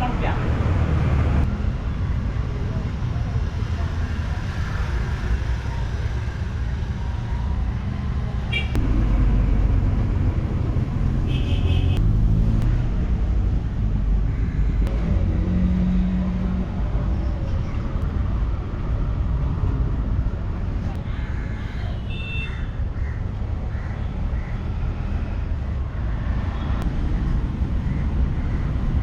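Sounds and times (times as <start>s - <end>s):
vehicle engine rumble: 0.0s - 22.0s, 23.2s - 29.0s.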